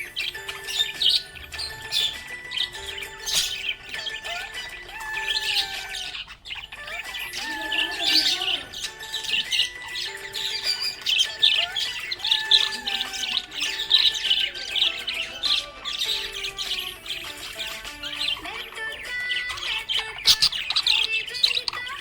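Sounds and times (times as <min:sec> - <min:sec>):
background music: 0:00.0 - 0:22.0
budgerigars chirping: 0:00.0 - 0:22.0.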